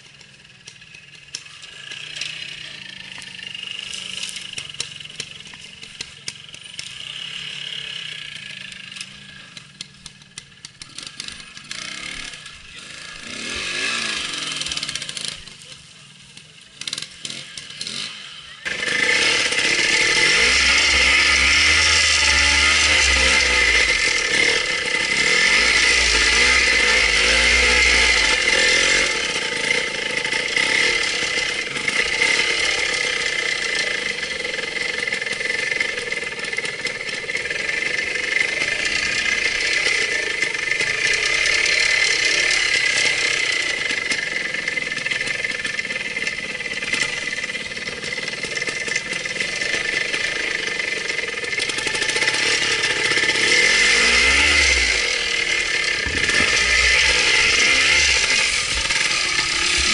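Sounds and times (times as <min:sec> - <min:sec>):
close two-stroke motorcycle revving: 0:00.0 - 0:59.9
motorcycle engines revving: 0:00.0 - 0:59.9.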